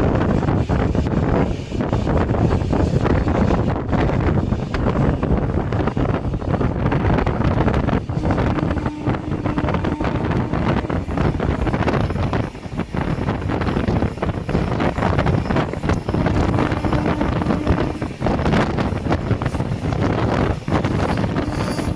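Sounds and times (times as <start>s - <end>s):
train rumbling: 0.0s - 21.9s
wind buffeting microphone: 0.0s - 21.9s.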